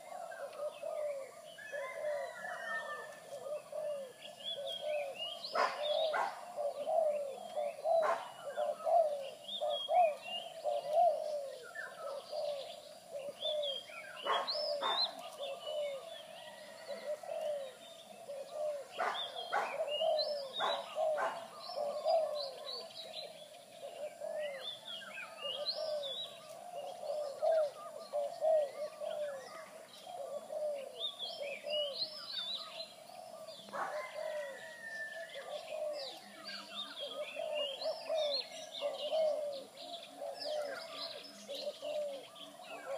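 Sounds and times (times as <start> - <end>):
doves cooing: 0.0 - 42.9
small birds chirping: 0.0 - 42.9.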